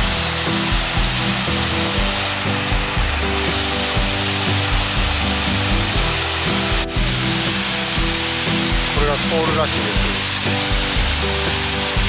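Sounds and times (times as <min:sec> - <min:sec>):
background music of held notes: 0:00.0 - 0:12.0
small waterfall hissing: 0:00.0 - 0:12.0.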